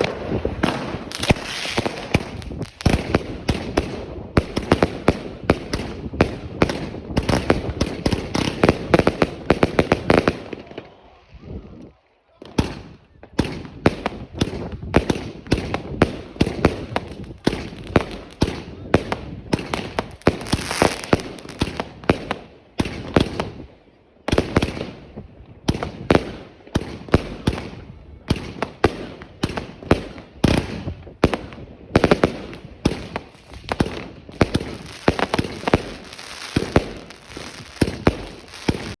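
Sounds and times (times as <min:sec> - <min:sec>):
fireworks bangs and crackling: 0:00.0 - 0:11.8, 0:12.4 - 0:39.0.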